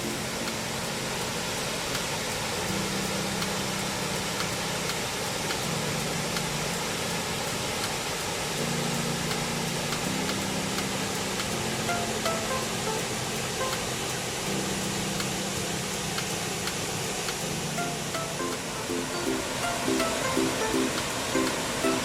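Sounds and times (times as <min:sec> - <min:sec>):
background music low notes: 0:00.0 - 0:22.0
waterfall rushing: 0:00.0 - 0:22.0.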